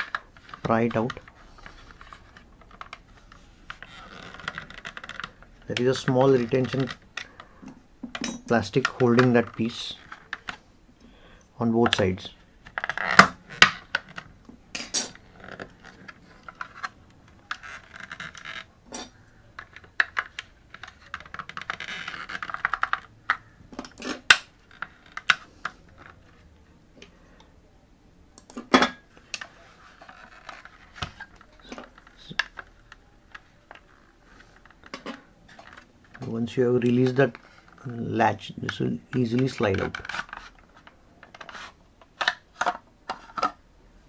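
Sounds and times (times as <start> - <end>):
plastic clicks and scraping: 0.0 - 7.8, 11.8 - 26.4, 28.4 - 43.6.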